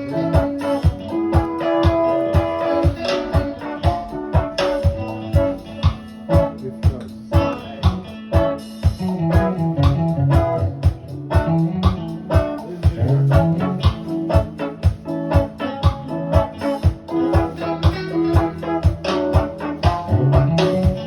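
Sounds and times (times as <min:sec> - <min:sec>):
bass line: 0:00.0 - 0:21.0
drum beat: 0:00.0 - 0:21.0
plucked guitar: 0:00.0 - 0:21.0.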